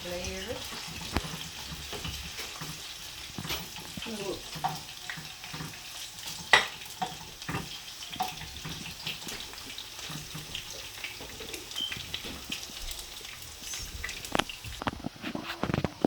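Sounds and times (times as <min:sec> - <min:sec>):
onion sizzling in hot oil: 0:00.0 - 0:16.0.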